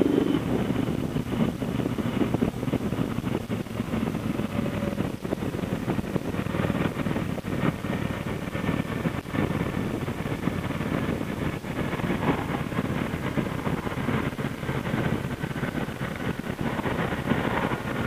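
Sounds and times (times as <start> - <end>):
motorcycle engine running: 0.0 - 18.0
wind buffeting on microphone: 0.0 - 18.0.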